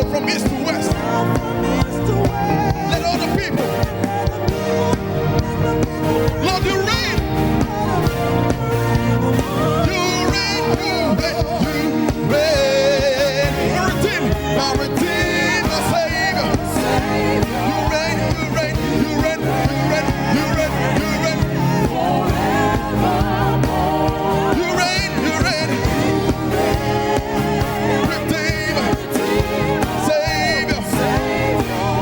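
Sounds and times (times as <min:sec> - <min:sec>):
gospel band with keyboards and drums: 0:00.0 - 0:32.0
person singing: 0:00.0 - 0:32.0.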